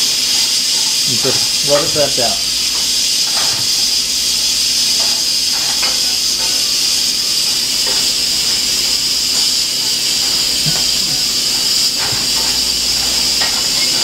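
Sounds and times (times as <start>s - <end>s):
pressure cooker venting steam: 0.0s - 14.0s.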